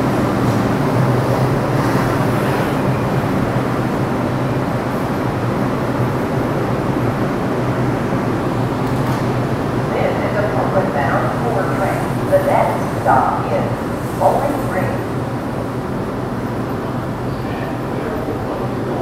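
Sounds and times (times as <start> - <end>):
subway train wheels rumbling: 0.0 - 19.0.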